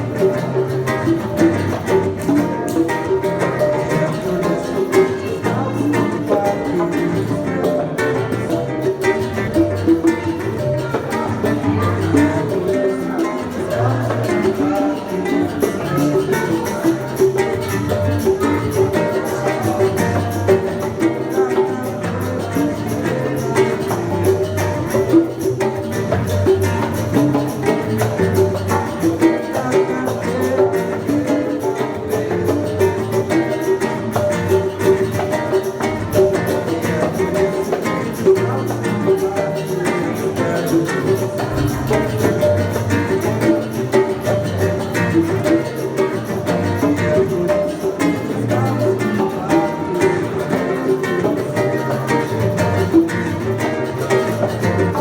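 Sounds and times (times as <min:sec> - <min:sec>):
acoustic guitar playing: 0:00.0 - 0:55.0
bongos beat: 0:00.0 - 0:55.0.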